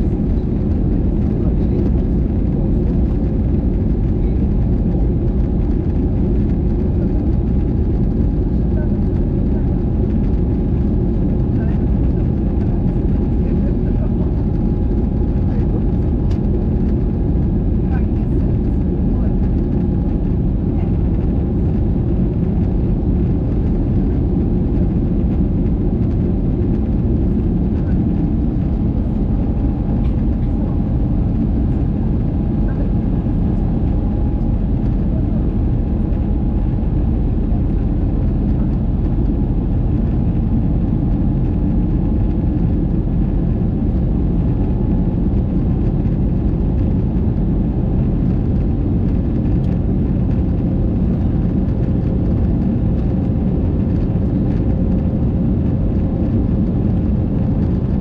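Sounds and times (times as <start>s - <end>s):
jet engine and airflow rumble: 0.0s - 58.0s.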